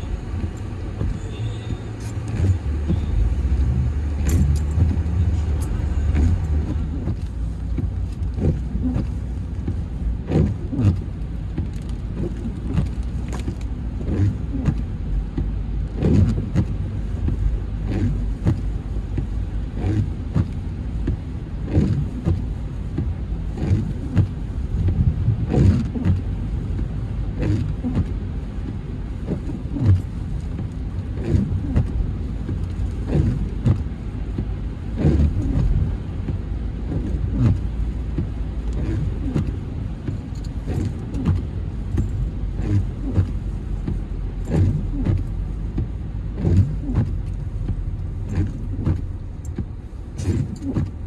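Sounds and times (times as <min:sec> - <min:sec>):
car driving low rumble: 0:00.0 - 0:51.0.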